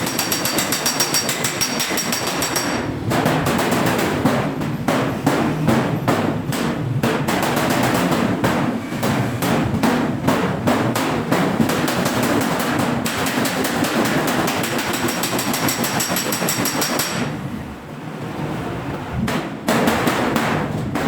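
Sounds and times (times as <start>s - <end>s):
hammer striking sheet steel: 0.0s - 17.7s, 19.2s - 21.0s.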